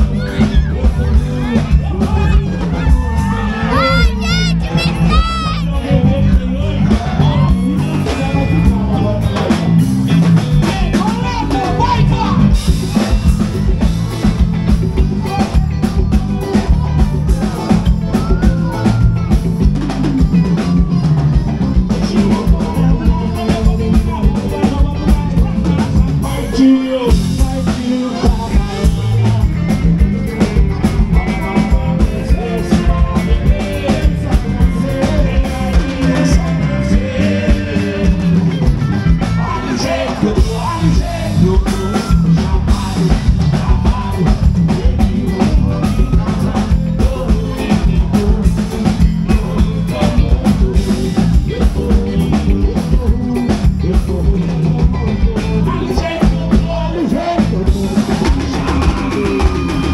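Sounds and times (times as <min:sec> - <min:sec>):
drum kit beat: 0:00.0 - 0:59.9
person singing: 0:00.0 - 0:59.9.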